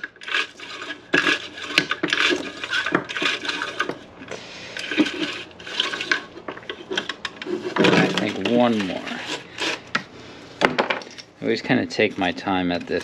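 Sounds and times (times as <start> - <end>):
starter rope scraping and rattling: 0.0 - 9.9, 11.4 - 13.0.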